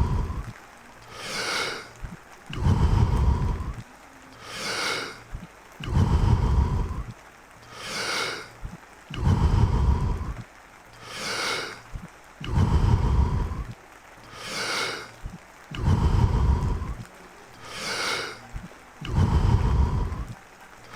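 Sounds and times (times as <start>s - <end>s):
man breathing deeply: 0.0s - 10.4s, 11.0s - 20.9s.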